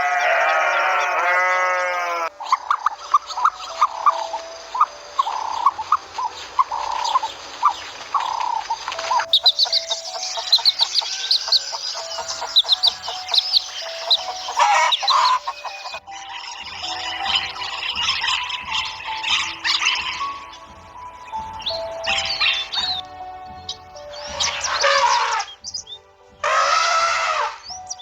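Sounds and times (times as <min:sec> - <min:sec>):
small birds chirping: 0:00.0 - 0:28.0
chickens clucking: 0:02.0 - 0:25.6.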